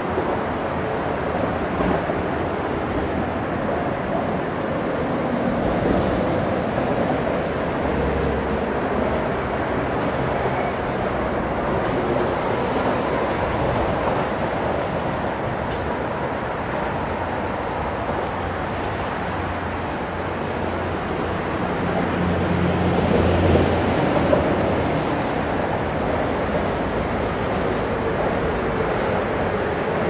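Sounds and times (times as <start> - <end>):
traffic on a bridge: 0.0 - 30.0.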